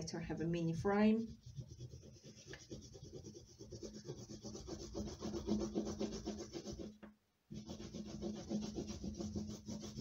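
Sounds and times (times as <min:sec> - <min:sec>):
oil pastel rubbing on paper: 0:01.2 - 0:10.0.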